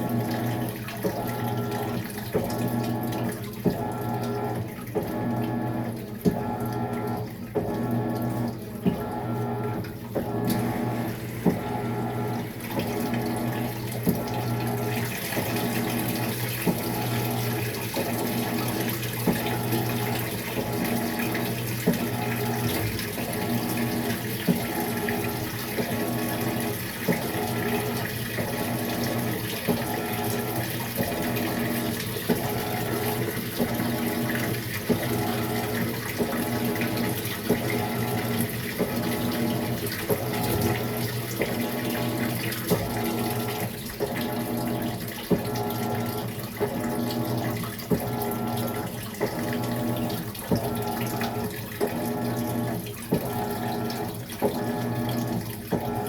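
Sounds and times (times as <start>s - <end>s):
washing machine motor hum: 0.0s - 56.0s
washing machine water splashing: 0.0s - 56.0s.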